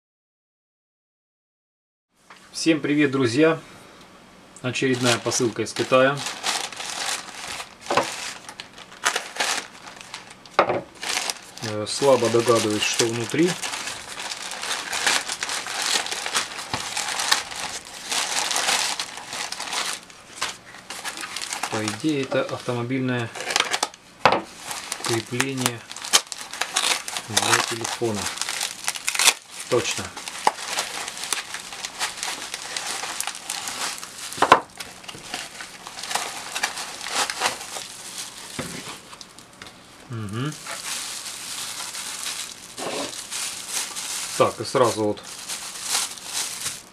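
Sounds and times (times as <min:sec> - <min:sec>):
plastic bag crinkling and tearing: 0:04.8 - 0:39.8, 0:40.5 - 0:46.9.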